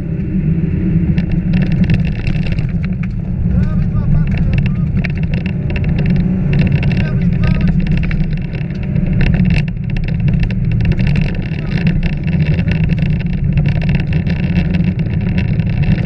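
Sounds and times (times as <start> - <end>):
car engine running hard: 0.0 - 16.0
gravel striking car underside: 1.1 - 16.0.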